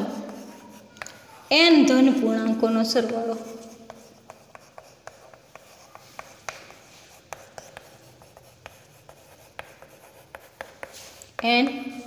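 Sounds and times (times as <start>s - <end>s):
chalk scratching on chalkboard: 0.0s - 12.0s.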